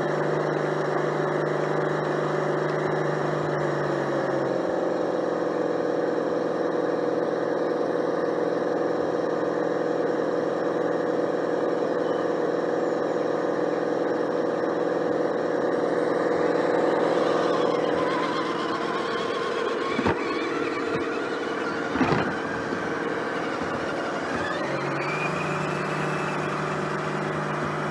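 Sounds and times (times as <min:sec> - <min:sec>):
model motor and gearbox whining: 0:00.0 - 0:27.9.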